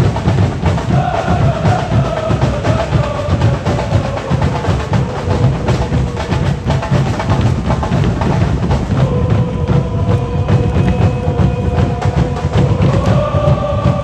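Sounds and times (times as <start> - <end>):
crowd chanting a held note: 0.0 - 7.4, 8.2 - 14.0
drums beaten in a fast roll: 0.0 - 14.0.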